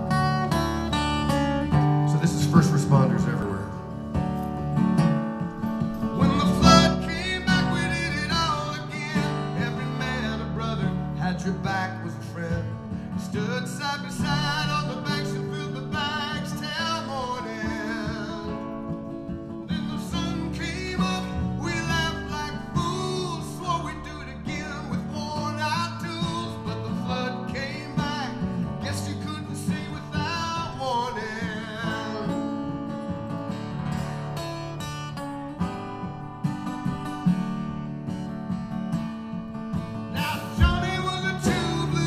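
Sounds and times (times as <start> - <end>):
slide guitar gliding notes: 0.0 - 35.0, 39.5 - 42.0
strummed acoustic guitar: 0.0 - 42.0.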